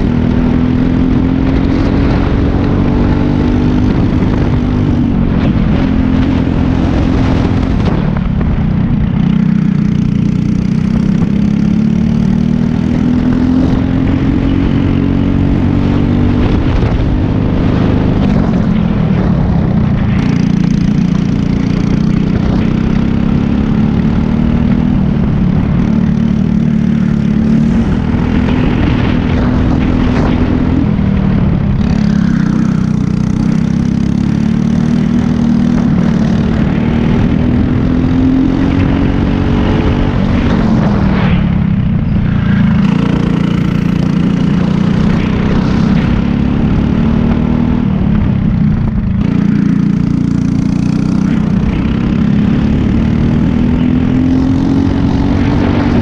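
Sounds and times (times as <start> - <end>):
kart engine revving: 0.0 - 56.0
wind and road noise: 0.0 - 56.0.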